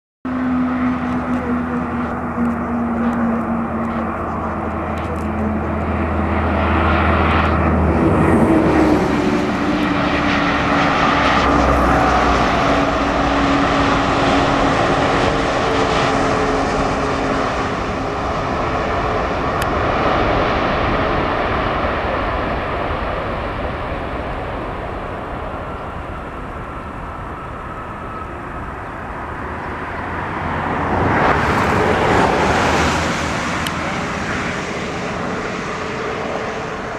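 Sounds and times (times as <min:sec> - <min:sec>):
jet engine whining: 0:00.3 - 0:36.9.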